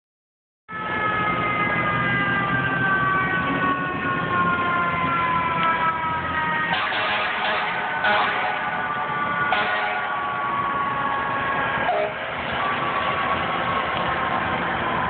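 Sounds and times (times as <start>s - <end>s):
fire truck siren falling tone: 0.7s - 15.0s
street traffic rumble: 0.7s - 15.0s.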